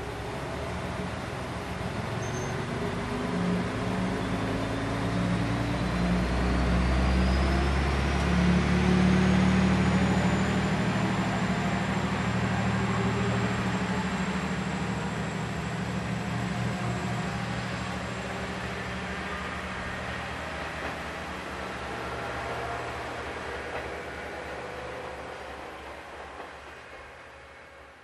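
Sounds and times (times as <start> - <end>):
diesel railcar engine running: 0.0 - 28.0.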